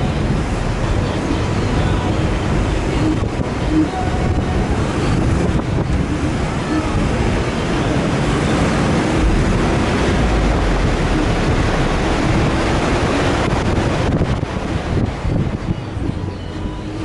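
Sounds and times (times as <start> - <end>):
off-road vehicle engine: 0.0 - 17.0
wind rumbling on microphone: 0.0 - 17.0.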